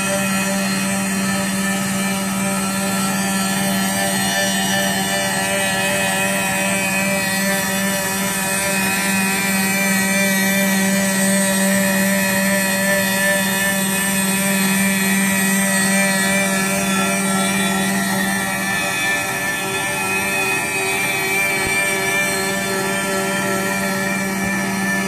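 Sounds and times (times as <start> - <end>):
router spindle whining: 0.0 - 25.0.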